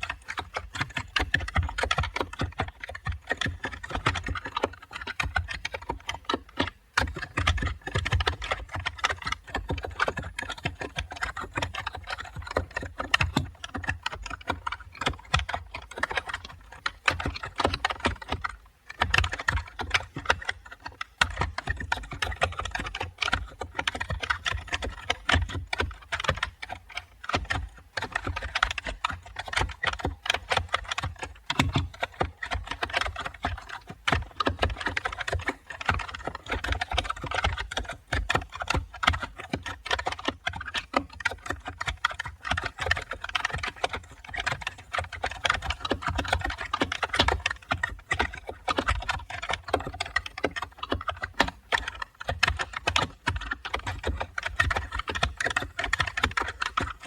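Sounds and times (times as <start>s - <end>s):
typing on computer keyboard: 0.0s - 57.0s.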